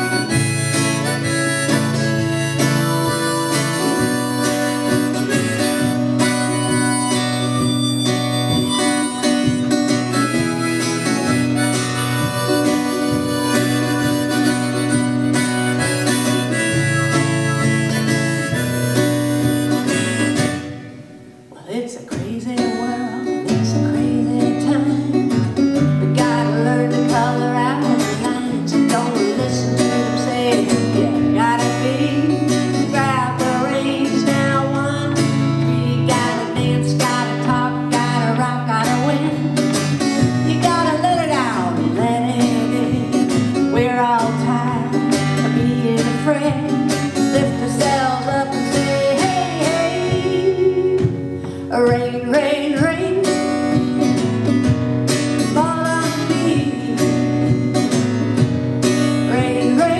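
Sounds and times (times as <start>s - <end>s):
woman singing: 0.0s - 18.3s, 21.5s - 58.2s, 59.0s - 59.9s
strummed acoustic guitar: 0.0s - 59.9s.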